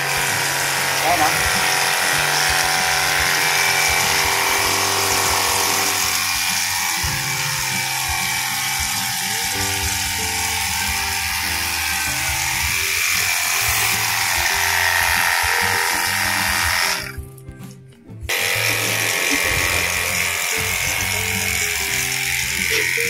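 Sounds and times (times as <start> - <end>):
pressure washer spraying: 0.0 - 17.2, 18.3 - 23.0
background music with bass line: 0.0 - 23.0.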